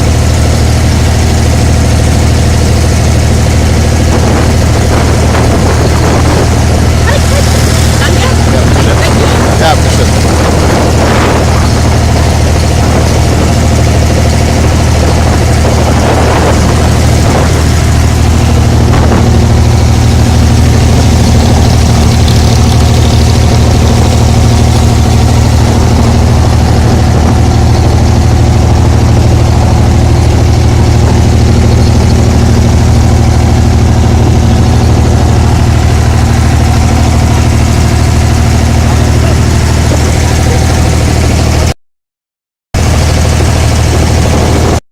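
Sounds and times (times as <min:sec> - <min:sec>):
higher hum: 0:00.0 - 0:41.6
boat diesel engine drone: 0:00.0 - 0:41.8, 0:42.8 - 0:44.8.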